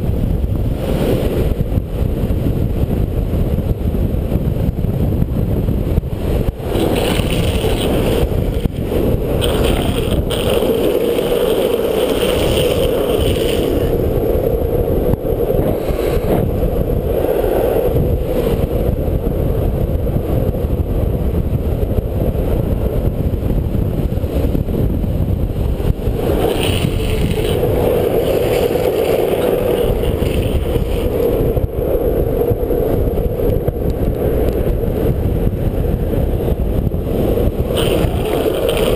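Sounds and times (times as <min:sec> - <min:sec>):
longboard wheels rolling on asphalt: 0:00.0 - 0:38.9
wind rushing on microphone: 0:00.0 - 0:38.9.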